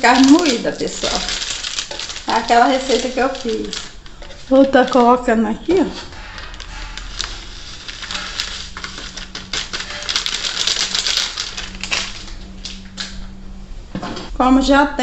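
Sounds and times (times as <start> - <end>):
grated cheese clicking and crackling: 0.0 - 12.9
faint steady hum: 0.0 - 15.0.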